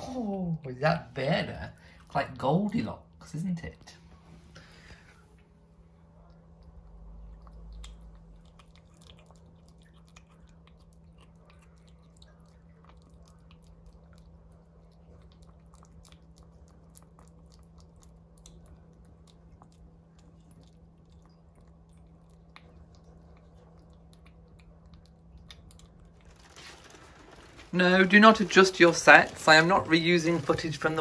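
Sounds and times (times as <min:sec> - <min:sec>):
steady low hum: 0:00.0 - 0:31.0
kitten eating clicks: 0:06.0 - 0:31.0.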